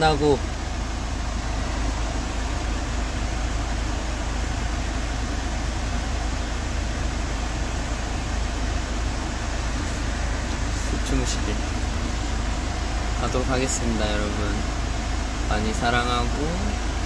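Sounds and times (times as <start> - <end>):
van cabin rumble: 0.0 - 17.0.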